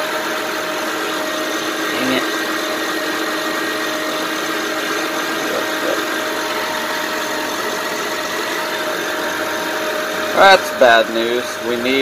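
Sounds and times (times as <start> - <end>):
car engine idling: 0.0 - 12.0
steady engine whine: 0.0 - 12.0.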